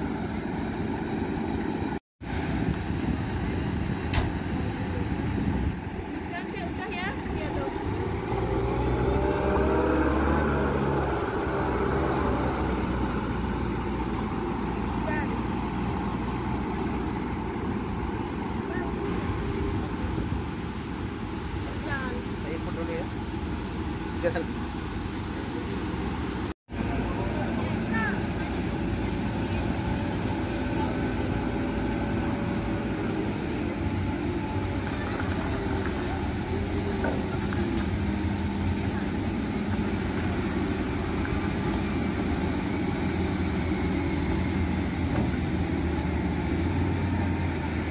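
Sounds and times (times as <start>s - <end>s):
diesel engine running under load: 0.0s - 47.9s.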